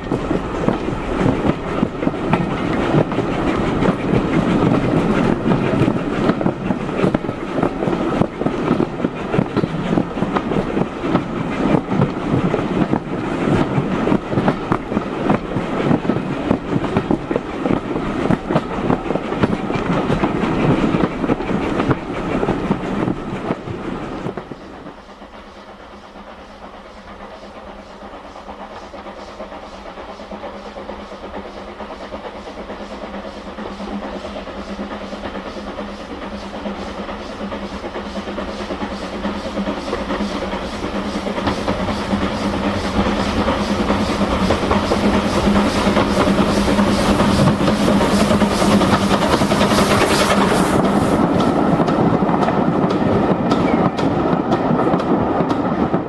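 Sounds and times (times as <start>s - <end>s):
wheels clacking over rail joints: 0.0s - 25.0s, 34.2s - 56.0s
train carriage rumbling: 0.0s - 56.0s.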